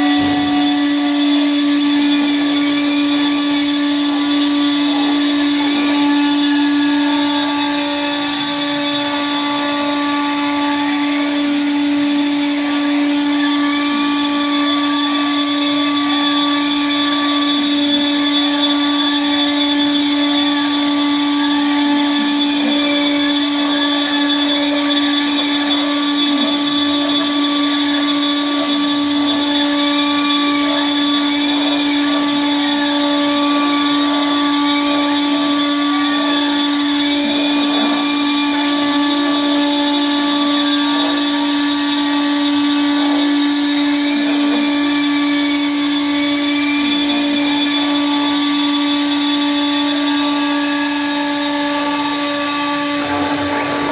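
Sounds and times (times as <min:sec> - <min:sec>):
router spindle high whine: 0:00.0 - 0:53.9.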